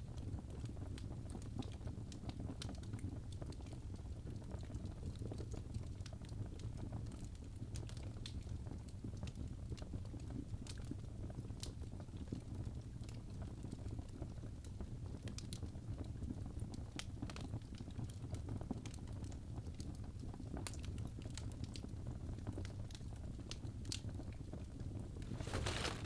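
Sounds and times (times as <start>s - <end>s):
fireplace fire crackling: 0.1s - 26.0s.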